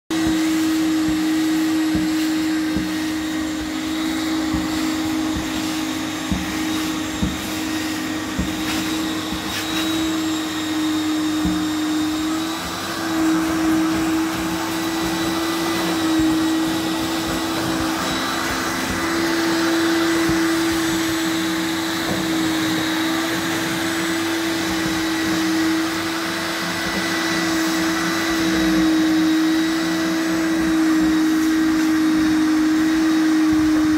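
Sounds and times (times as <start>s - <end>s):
floor scrubber motor humming: 0.1s - 33.9s
wet vacuum sucking: 0.1s - 33.9s.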